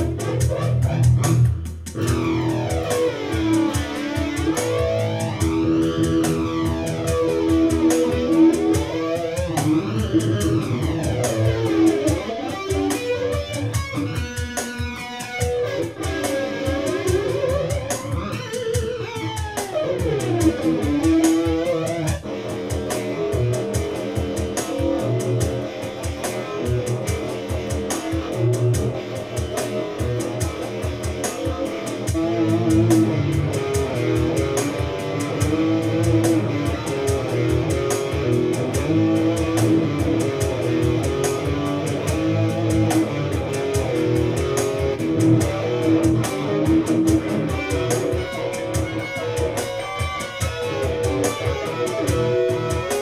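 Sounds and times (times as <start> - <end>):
electric guitar improvising: 0.0 - 53.0
steady beat: 0.0 - 53.0.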